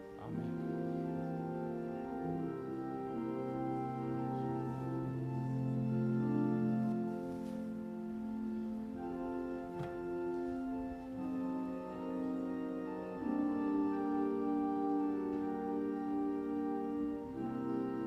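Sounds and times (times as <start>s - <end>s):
organ playing slow chords: 0.0s - 18.0s.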